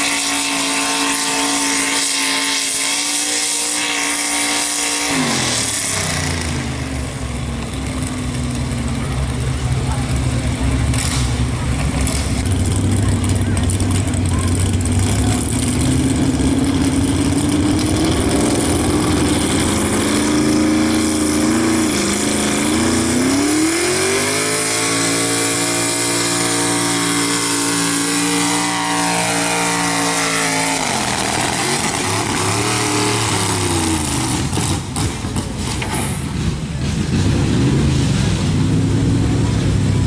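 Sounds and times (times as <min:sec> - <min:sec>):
pulling truck engine at full throttle: 0:00.0 - 0:40.0.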